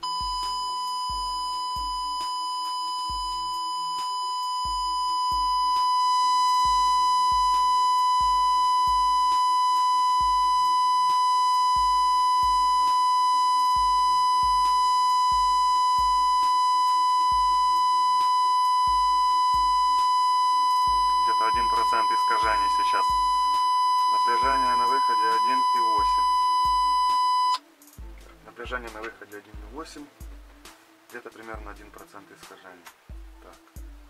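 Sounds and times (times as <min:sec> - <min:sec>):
steady high test tone: 0:00.0 - 0:27.6
faint music with steady beat: 0:00.0 - 0:34.0.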